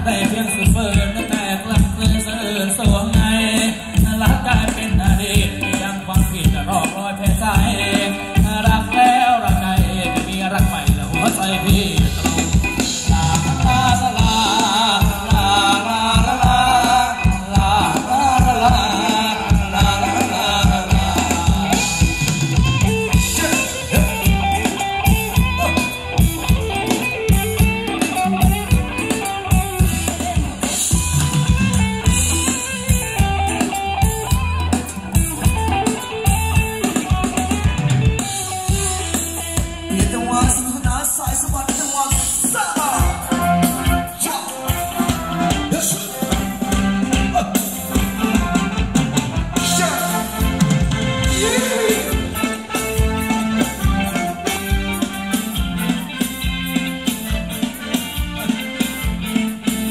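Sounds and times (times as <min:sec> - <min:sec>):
drum kit beat: 0:00.0 - 0:59.9
live dance music over loudspeakers: 0:00.0 - 0:59.9.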